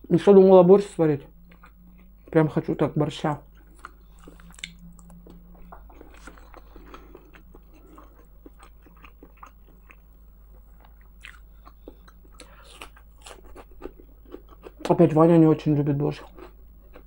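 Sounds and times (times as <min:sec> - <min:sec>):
low hum: 0:00.0 - 0:17.0
person chewing food: 0:01.3 - 0:02.8, 0:03.4 - 0:14.9, 0:16.2 - 0:17.0.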